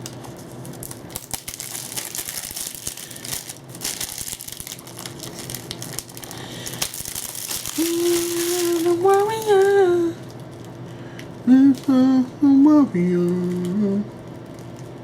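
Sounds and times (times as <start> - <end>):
plastic wrapping crinkling and tearing: 0.0 - 10.9, 11.7 - 12.0, 13.3 - 15.0.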